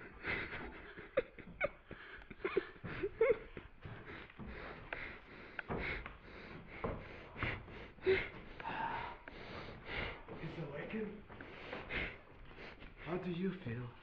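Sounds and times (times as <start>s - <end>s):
person breathing hard and sniffing: 0.0s - 13.2s.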